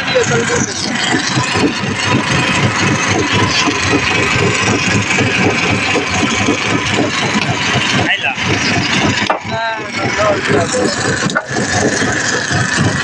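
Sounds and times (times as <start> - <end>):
engine idling with low chugging: 0.0 - 13.0.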